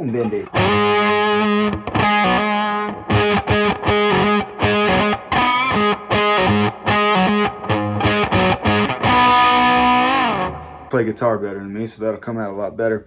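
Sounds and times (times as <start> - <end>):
fuzz electric guitar riff: 0.0 - 11.1.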